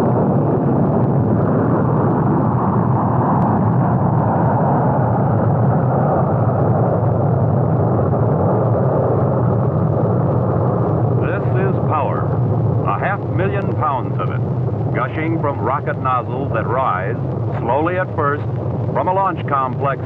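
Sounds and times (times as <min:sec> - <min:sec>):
rocket engine roaring: 0:00.0 - 0:20.0.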